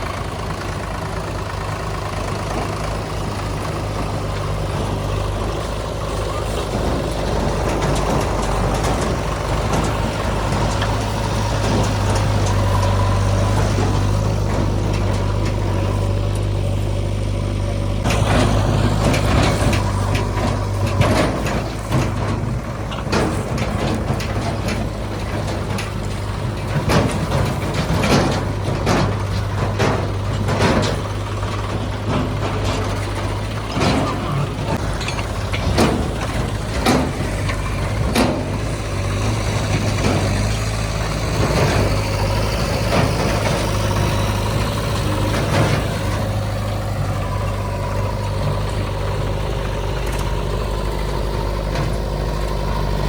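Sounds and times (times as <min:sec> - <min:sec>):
backhoe diesel engine running: 0:00.0 - 0:53.0
knocks and clatter: 0:00.0 - 0:53.0.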